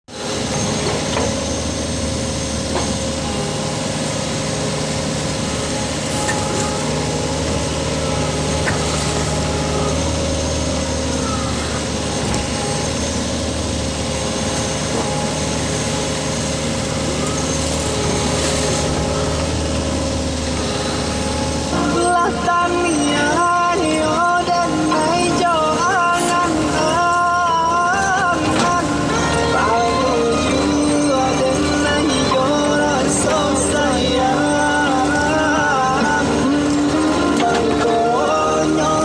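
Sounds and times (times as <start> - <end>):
excavator engine running: 0.1 - 39.0.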